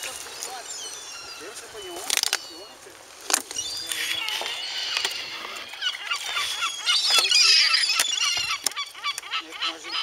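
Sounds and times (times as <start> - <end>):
gulls squawking: 0.0 - 10.0.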